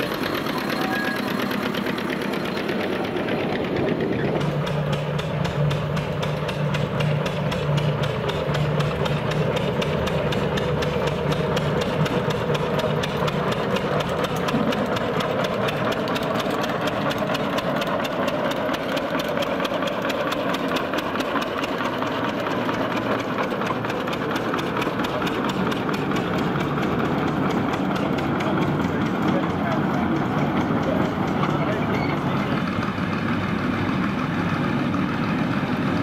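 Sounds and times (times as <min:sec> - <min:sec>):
locomotive engine exhaust beat: 0:00.0 - 0:36.0.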